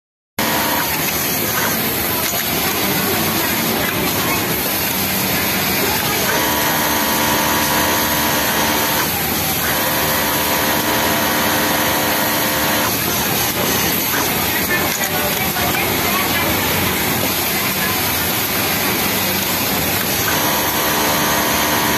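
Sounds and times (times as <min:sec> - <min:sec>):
sewing machine whine: 0:00.4 - 0:21.9.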